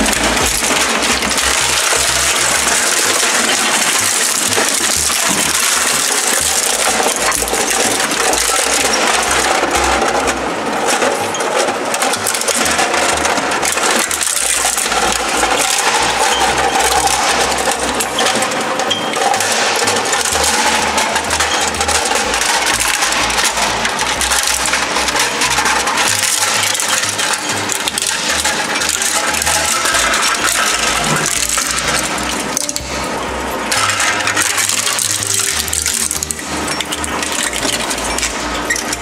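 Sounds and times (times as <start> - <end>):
shredder crunching plastic: 0.0 - 39.0
shredder machine running: 0.0 - 39.0.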